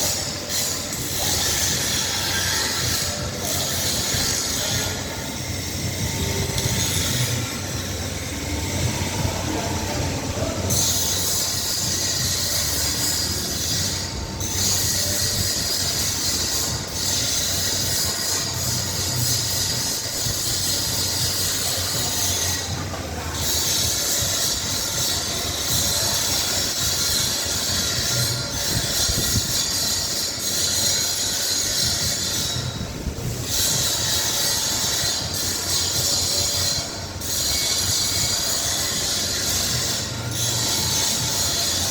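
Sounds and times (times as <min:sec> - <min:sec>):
metalworking machine hum: 0:00.0 - 0:41.9.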